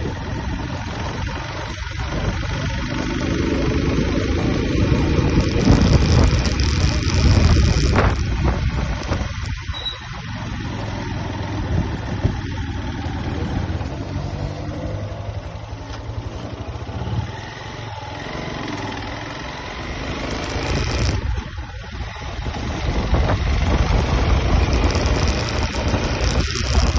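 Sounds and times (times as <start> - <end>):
road noise: 0.0 - 26.9
vehicle engine running: 0.0 - 26.9.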